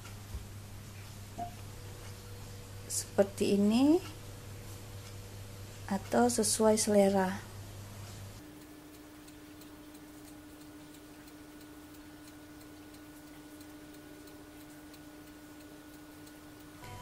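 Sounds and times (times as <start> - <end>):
faint ticking: 1.4 - 17.0.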